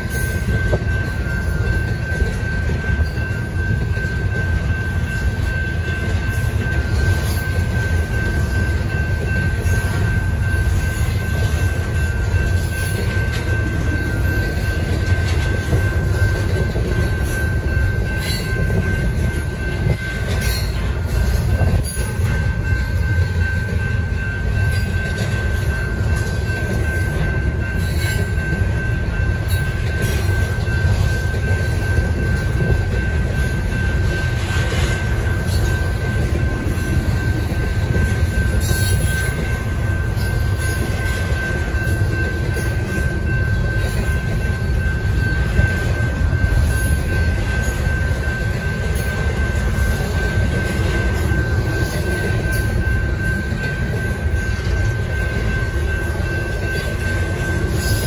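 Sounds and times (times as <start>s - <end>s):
constant high tone: 0.0s - 58.0s
freight train wheels rumbling: 0.0s - 58.0s.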